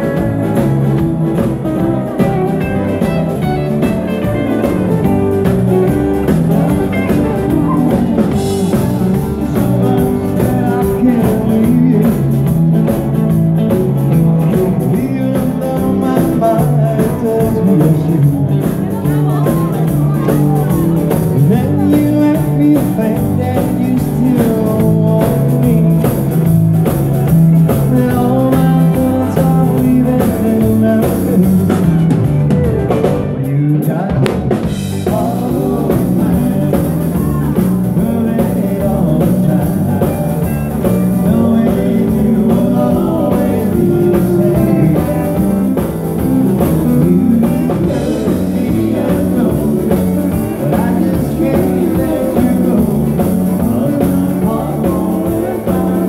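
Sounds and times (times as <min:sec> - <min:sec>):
person singing: 0:00.0 - 0:13.3, 0:13.9 - 0:32.2, 0:33.4 - 0:56.0
live band playing: 0:00.0 - 0:56.0.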